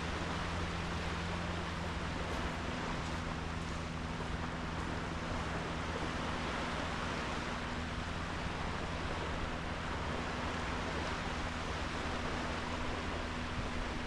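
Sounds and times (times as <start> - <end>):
low steady hum: 0.0 - 14.0
sea waves washing on beach: 0.0 - 14.0.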